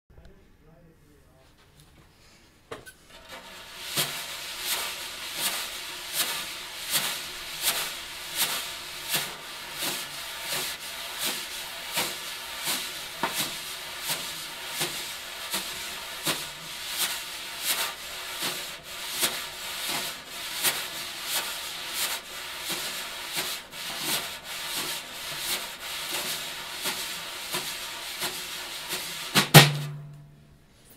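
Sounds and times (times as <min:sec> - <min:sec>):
wire brushes swishing on snare: 0:02.8 - 0:29.9.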